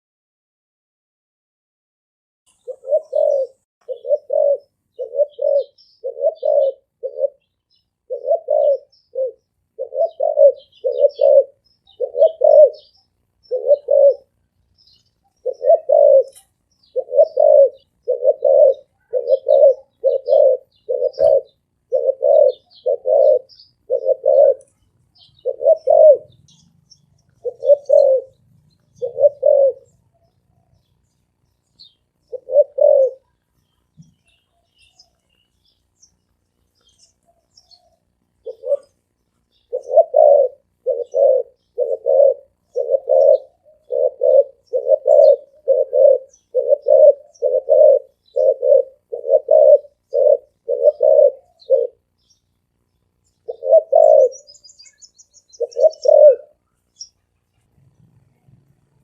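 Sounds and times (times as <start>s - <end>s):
dove cooing: 2.5s - 36.1s, 36.7s - 52.2s, 53.3s - 59.0s
small birds chirping: 2.5s - 59.0s.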